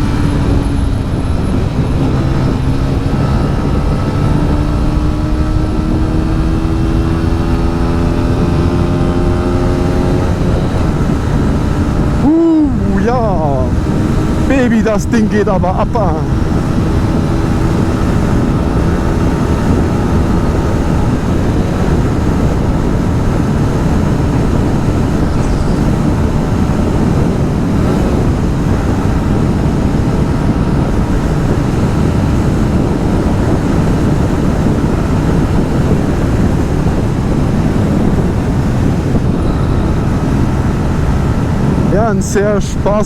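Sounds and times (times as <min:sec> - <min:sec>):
motorcycle engine running: 0:00.0 - 0:43.0
wind noise on microphone: 0:00.0 - 0:43.0.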